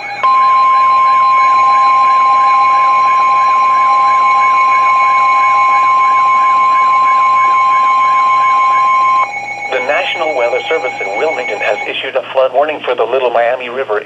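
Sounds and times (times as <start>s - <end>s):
faint warbling tone: 0.0s - 12.0s
loud steady alarm tone: 0.0s - 12.2s.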